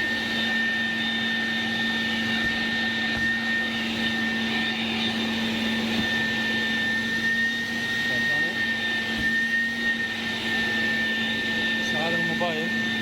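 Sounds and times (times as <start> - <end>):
air blower vacuum whining: 0.0 - 13.0.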